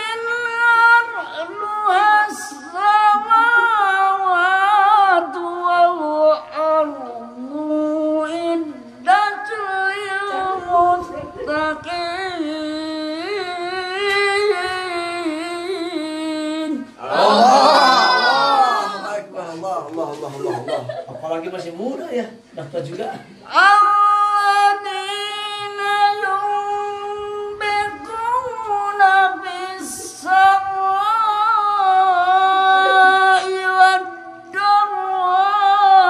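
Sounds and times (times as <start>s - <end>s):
man reciting melodically: 0.0s - 36.0s.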